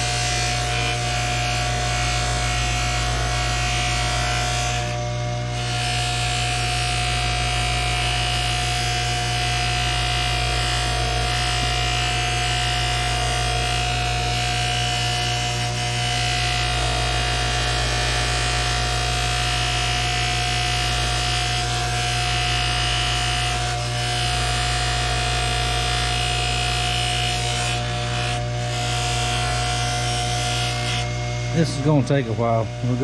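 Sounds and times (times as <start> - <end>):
buffer motor humming: 0.0 - 33.0.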